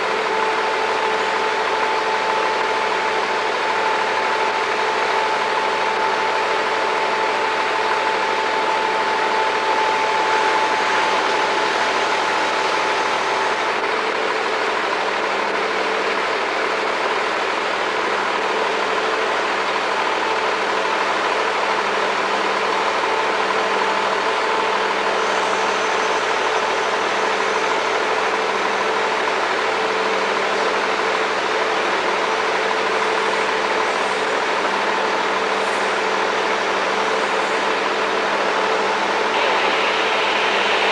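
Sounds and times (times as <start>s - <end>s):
machine droning: 0.0s - 40.9s.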